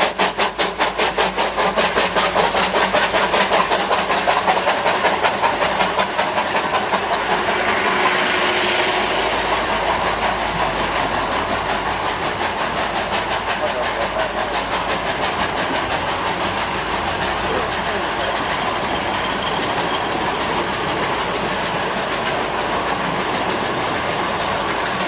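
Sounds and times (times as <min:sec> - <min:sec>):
steam hiss: 0:00.0 - 0:25.0
steam locomotive exhaust beats: 0:00.0 - 0:25.0.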